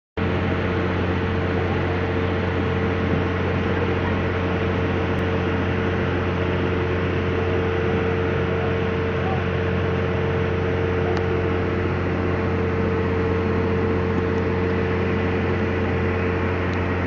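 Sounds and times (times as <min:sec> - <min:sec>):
low machinery drone: 0:00.2 - 0:17.0.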